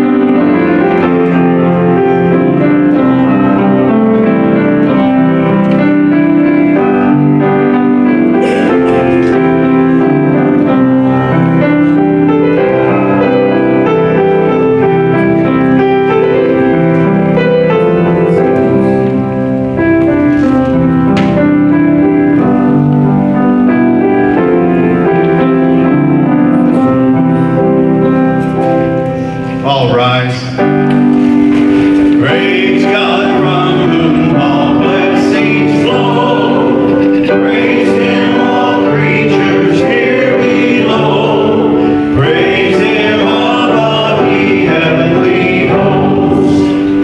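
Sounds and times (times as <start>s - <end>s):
keyboard playing slow chords: 0.0s - 47.0s.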